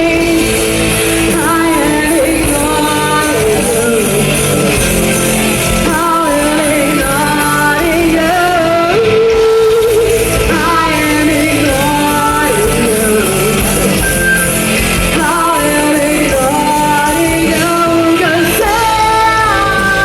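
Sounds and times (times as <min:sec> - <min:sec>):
lead singer singing: 0:00.0 - 0:20.0
live rock band: 0:00.0 - 0:20.0.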